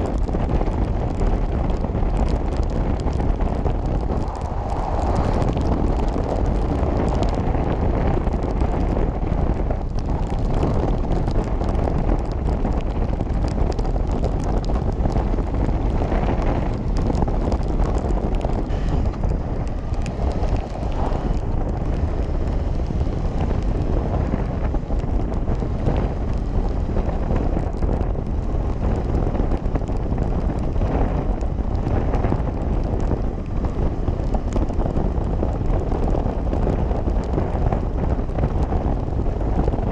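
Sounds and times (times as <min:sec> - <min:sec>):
motorcycle engine rumble: 0:00.0 - 0:39.9
wind rushing over microphone: 0:00.0 - 0:39.9.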